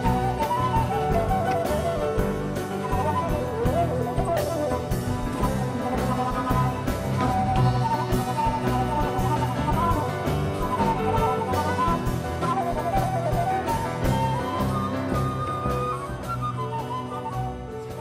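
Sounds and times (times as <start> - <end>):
flute melody: 0.0 - 18.0
violins and strings: 0.0 - 18.0.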